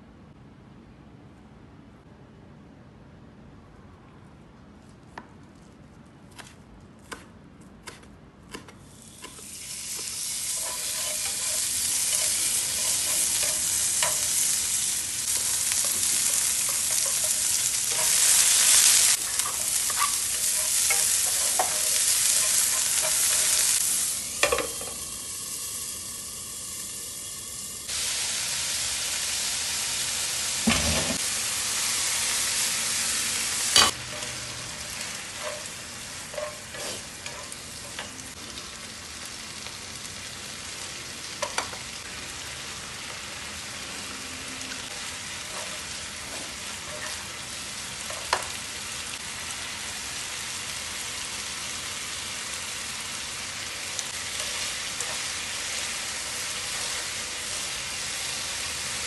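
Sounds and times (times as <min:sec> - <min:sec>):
garlic sizzling in oil: 0:08.8 - 0:59.0.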